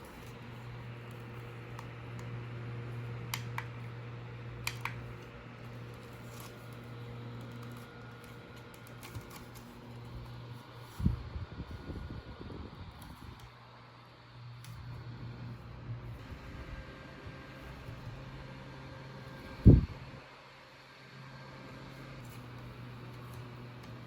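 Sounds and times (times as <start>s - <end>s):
small fan motor humming: 0.0s - 24.0s.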